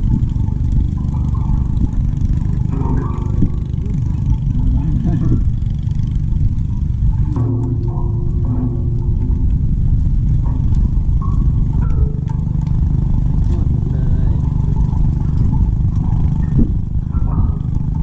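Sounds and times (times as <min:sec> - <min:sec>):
faint clatter: 0:00.0 - 0:18.0
low engine rumble: 0:00.0 - 0:18.0.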